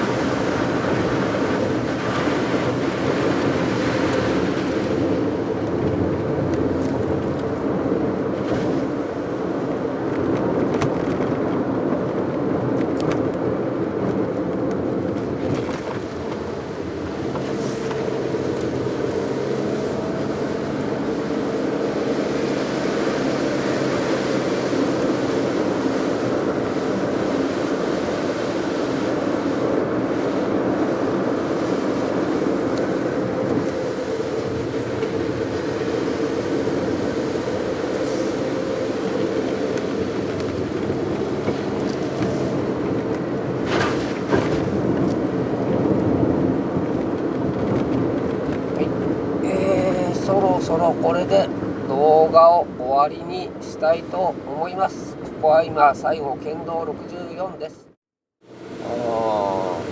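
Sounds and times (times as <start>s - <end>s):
low engine hum: 0.0s - 59.9s
road and tyre noise: 0.0s - 59.9s.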